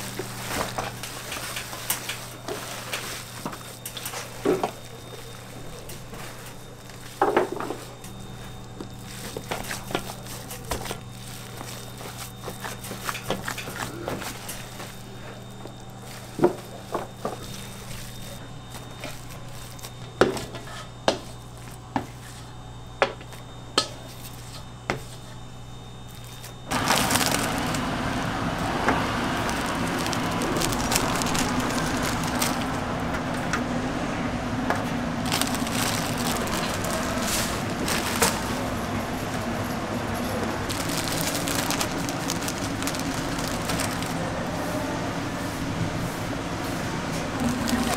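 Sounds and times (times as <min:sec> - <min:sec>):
noisy background: 0:00.0 - 0:47.9
steady low hum: 0:00.0 - 0:47.9.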